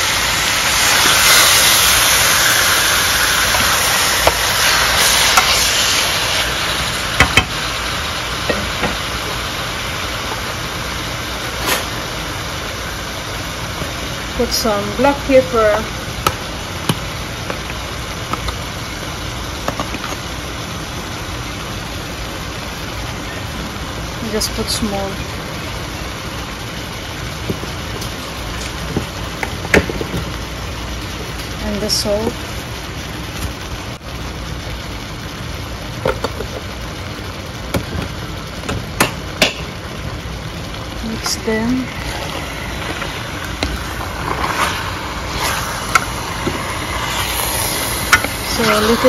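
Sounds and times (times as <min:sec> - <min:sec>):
chicken frying in oiled pan: 0:00.0 - 0:49.0.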